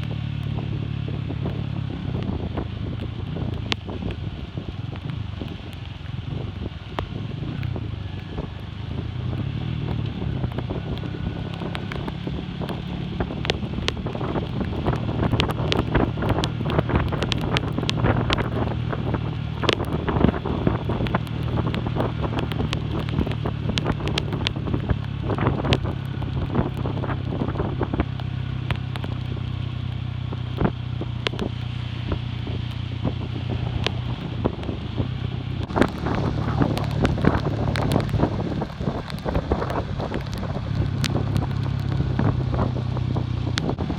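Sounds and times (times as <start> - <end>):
motorcycle engine running: 0.0 - 43.9
sharp crackles: 0.0 - 43.9
wind buffeting microphone: 0.0 - 43.9.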